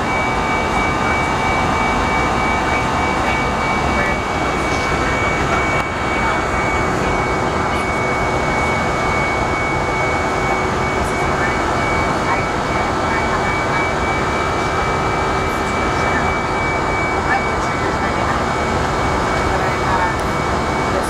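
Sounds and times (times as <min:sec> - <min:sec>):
jet engines and airflow rushing: 0:00.0 - 0:21.0
thin steady high whine: 0:00.0 - 0:21.0.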